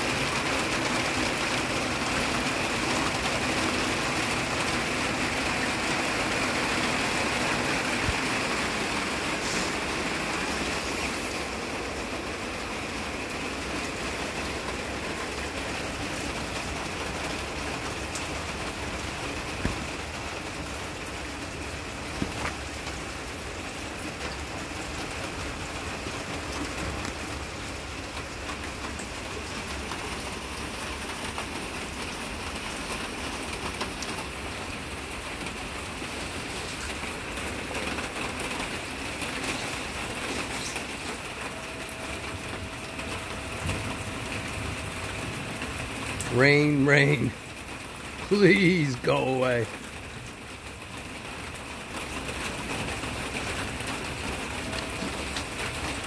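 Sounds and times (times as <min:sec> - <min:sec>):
heavy rain on greenhouse: 0:00.0 - 0:56.0.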